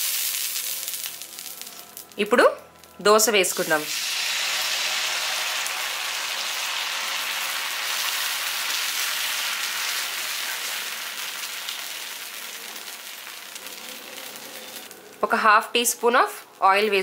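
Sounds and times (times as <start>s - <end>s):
batter sizzling on hot pan: 0.0s - 2.2s, 2.8s - 15.0s.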